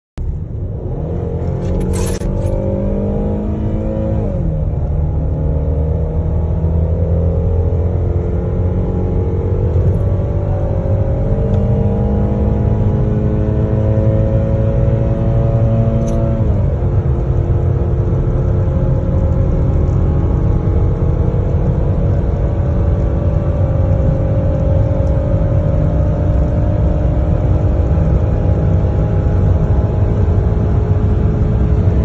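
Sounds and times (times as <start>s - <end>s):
car engine accelerating: 0.2s - 32.0s
road noise rumble: 0.2s - 32.0s.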